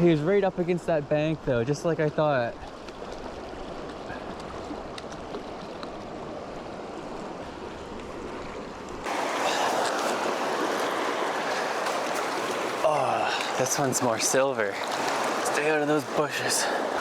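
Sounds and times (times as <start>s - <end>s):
river current rushing: 3.0s - 17.0s.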